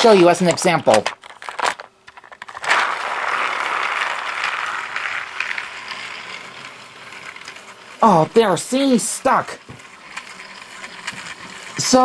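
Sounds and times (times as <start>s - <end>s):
toy train motor whirring: 1.4s - 12.0s
toy train clicks: 2.1s - 12.0s.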